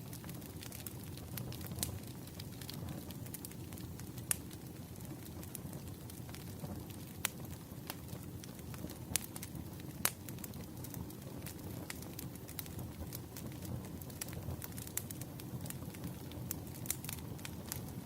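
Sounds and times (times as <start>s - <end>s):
firewood crackling: 0.0s - 18.0s.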